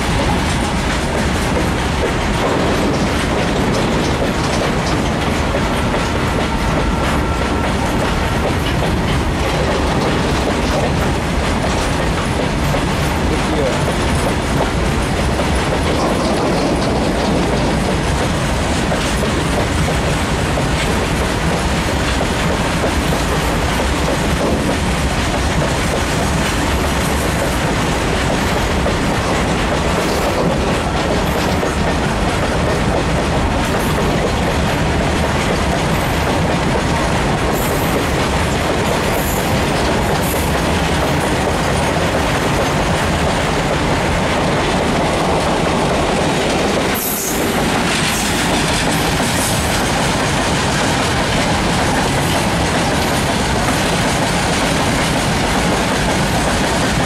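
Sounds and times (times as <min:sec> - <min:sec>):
freight train rumbling past: 0:00.0 - 0:57.0
wheels clattering over rail joints: 0:00.0 - 0:57.0.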